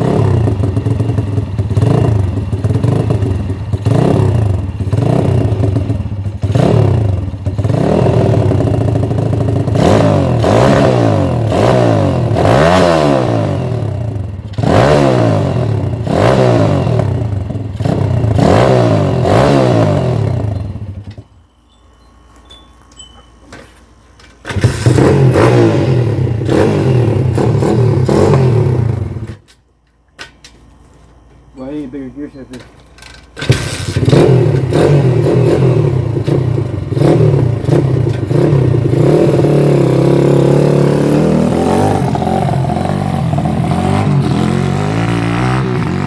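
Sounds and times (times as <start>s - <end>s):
pit bike engine revving: 0.0s - 21.2s, 24.4s - 29.5s, 33.3s - 46.0s.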